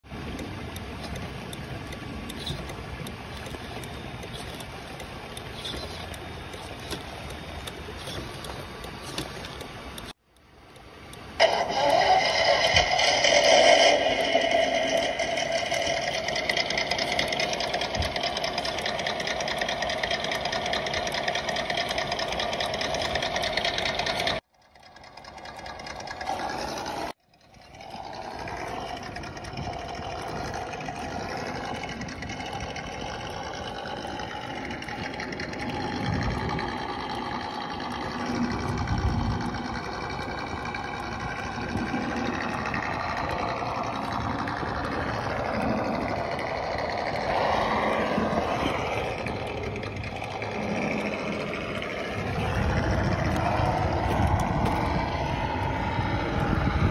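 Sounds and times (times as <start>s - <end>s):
electronic engine sound: 0.1s - 56.9s.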